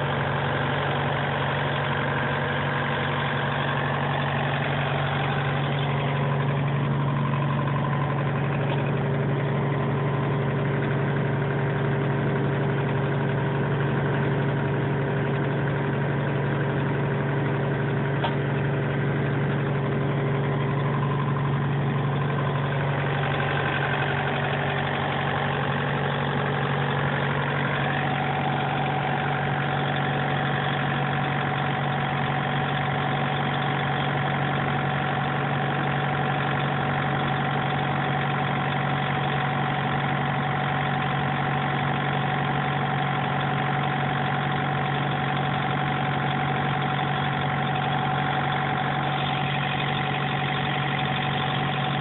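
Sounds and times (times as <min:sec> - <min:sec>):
refrigeration unit diesel engine hum: 0:00.0 - 0:52.0.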